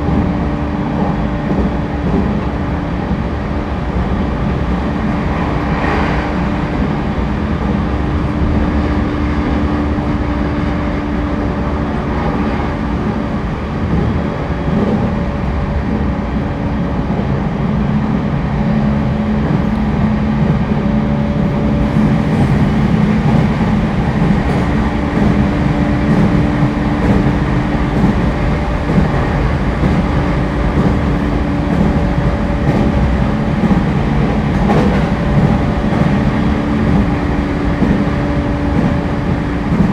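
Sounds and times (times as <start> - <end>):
train motor hum: 0.0 - 39.9
train wheels rumbling on track: 0.0 - 39.9.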